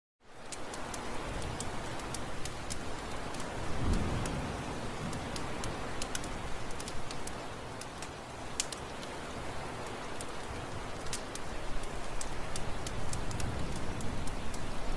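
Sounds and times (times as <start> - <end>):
heavy rain: 0.2 - 14.9.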